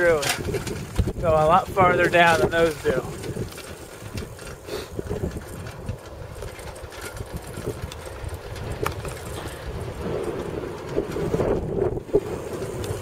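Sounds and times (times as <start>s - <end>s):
bicycle clicks and rattles: 0.0s - 13.0s
wind buffeting microphone: 0.0s - 13.0s.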